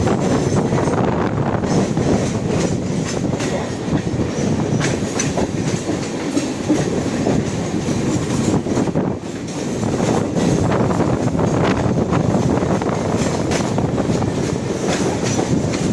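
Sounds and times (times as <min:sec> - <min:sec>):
train rumbling at speed: 0:00.0 - 0:15.9
wheels clicking over rail joints: 0:00.0 - 0:15.9.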